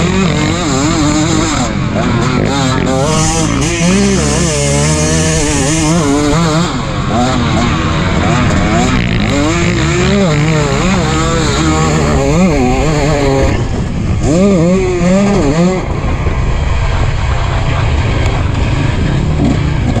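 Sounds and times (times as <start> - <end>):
two-stroke motorcycle engine revving: 0.0 - 20.0
wind on microphone: 0.6 - 20.0.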